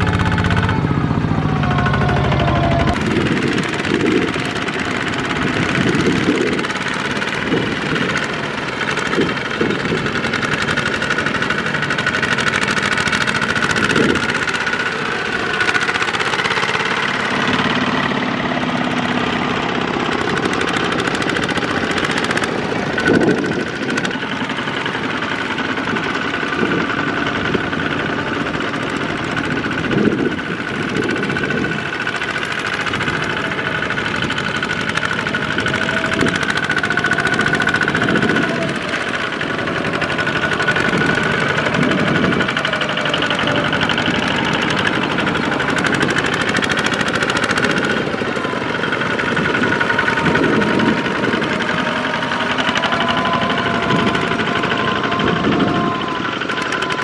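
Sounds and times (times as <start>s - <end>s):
walking tractor diesel engines: 0.0s - 57.0s.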